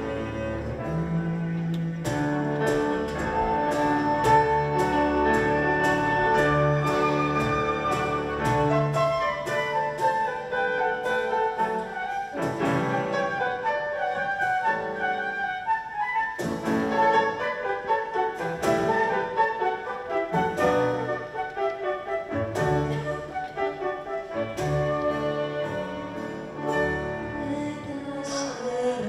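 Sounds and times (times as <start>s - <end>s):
flute melody: 0.0s - 29.0s
piano and strings playing chords: 0.0s - 29.0s.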